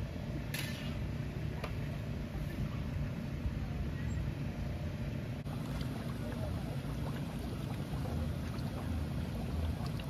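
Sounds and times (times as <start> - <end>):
propane burner rumbling: 0.0 - 10.0.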